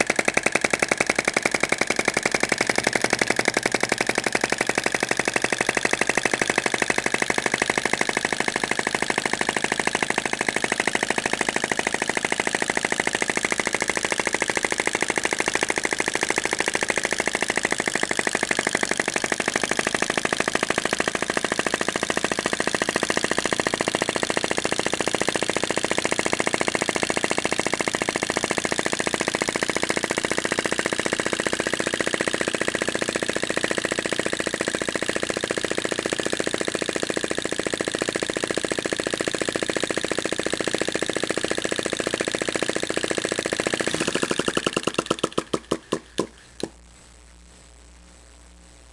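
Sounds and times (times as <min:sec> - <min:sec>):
small engine rapid clatter: 0:00.0 - 0:46.8.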